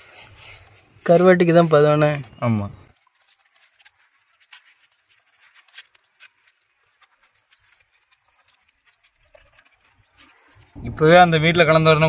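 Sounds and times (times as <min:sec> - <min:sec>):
hands rubbing salt into fish: 0:00.0 - 0:10.9
gritty scraping: 0:00.0 - 0:12.0.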